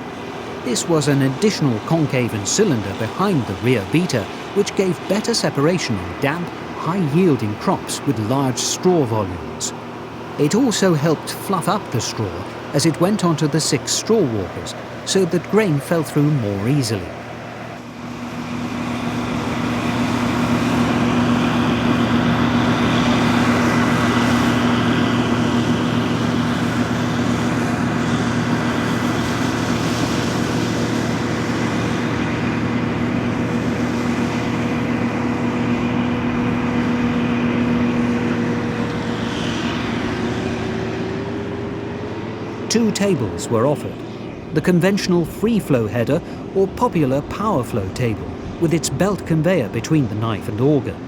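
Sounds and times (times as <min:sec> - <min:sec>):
combine harvester engine drone: 0:00.0 - 0:51.0
thin high whine: 0:00.0 - 0:51.0.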